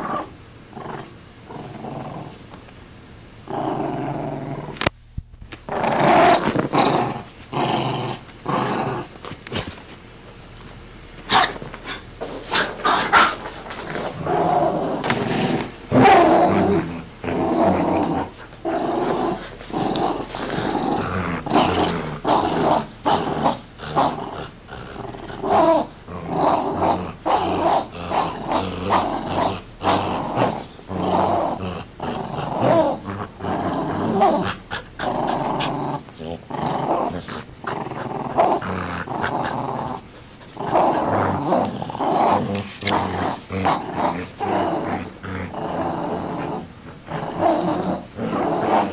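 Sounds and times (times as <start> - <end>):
dog growling: 0.0 - 2.4, 3.4 - 4.9, 5.7 - 9.8, 11.3 - 48.9.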